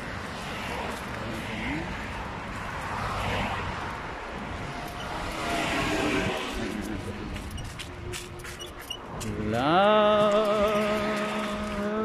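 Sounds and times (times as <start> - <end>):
street traffic rumble: 0.0 - 12.0
wind: 0.0 - 12.0.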